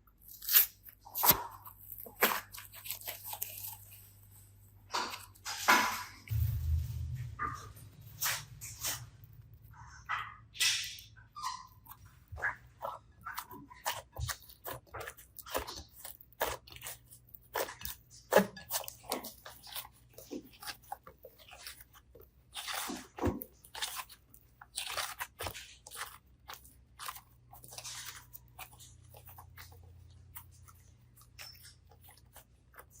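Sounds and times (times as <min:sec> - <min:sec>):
slime crackling and squishing: 0:00.0 - 0:07.2, 0:08.2 - 0:33.0.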